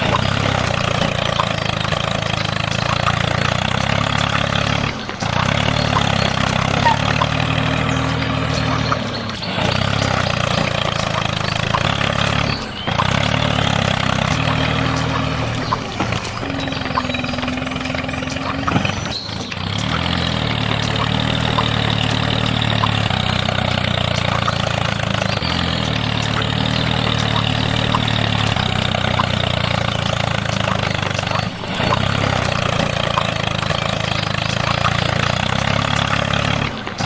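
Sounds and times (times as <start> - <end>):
small motor running: 0.0 - 37.0.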